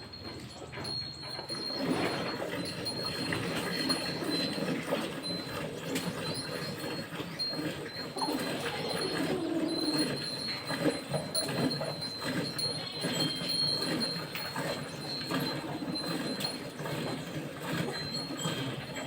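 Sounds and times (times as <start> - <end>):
cow milking noise: 0.0 - 19.0.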